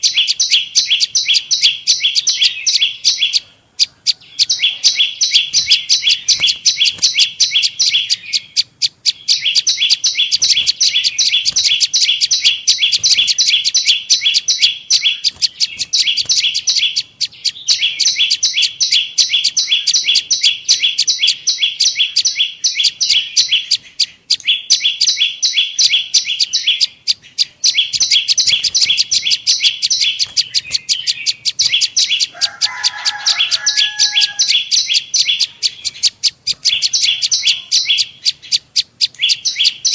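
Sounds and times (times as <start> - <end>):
bird chirping rapidly: 0.0 - 39.9
lower bird call: 0.0 - 39.9.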